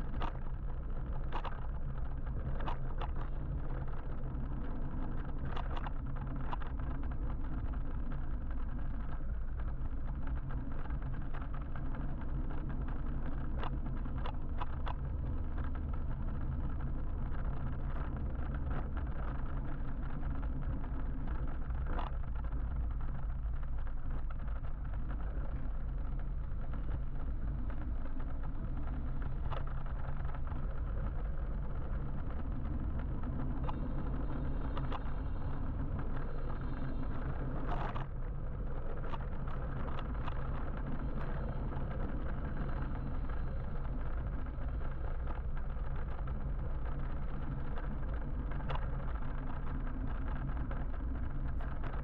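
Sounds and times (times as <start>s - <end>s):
road and traffic rumble: 0.0s - 52.0s.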